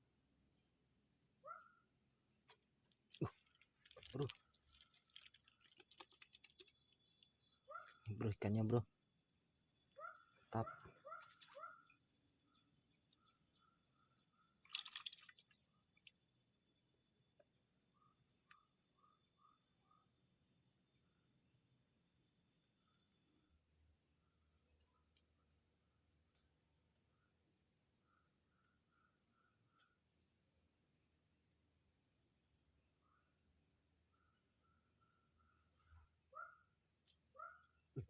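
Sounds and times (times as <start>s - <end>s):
insects trilling in chorus: 2.7s - 38.0s.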